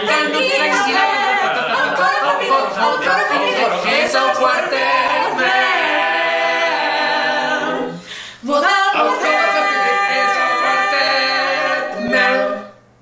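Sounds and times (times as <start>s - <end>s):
vocal quartet singing chords: 0.0s - 13.0s.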